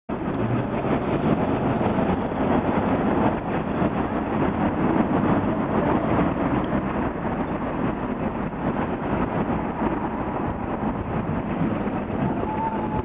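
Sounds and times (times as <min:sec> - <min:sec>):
vehicle engine and cabin rumble: 0:00.1 - 0:13.0.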